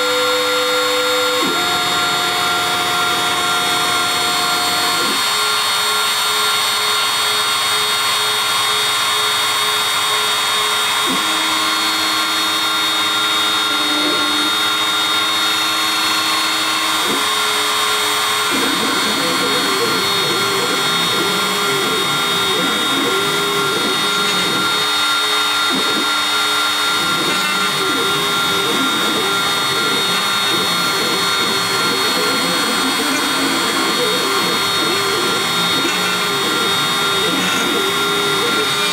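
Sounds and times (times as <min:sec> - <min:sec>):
router spindle whining: 0:00.0 - 0:38.9
stepper motor tones: 0:00.0 - 0:38.9.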